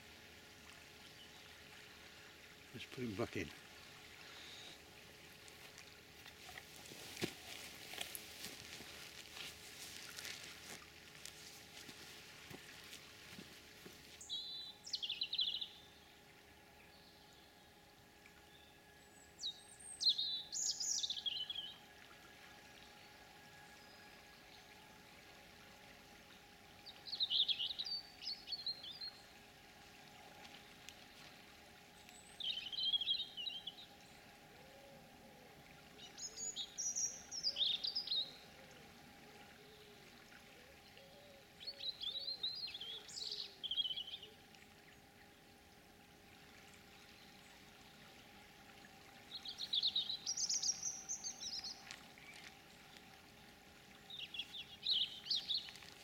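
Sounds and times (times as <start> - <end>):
songbird singing: 4.2 - 24.8, 26.3 - 45.6, 46.6 - 56.0.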